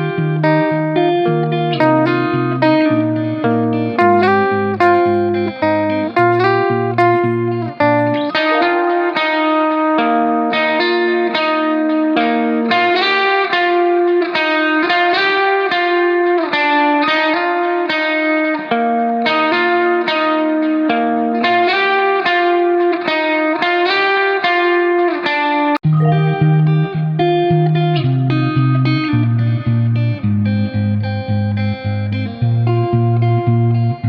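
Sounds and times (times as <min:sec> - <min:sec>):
plucked guitar tune: 0:00.0 - 0:34.0.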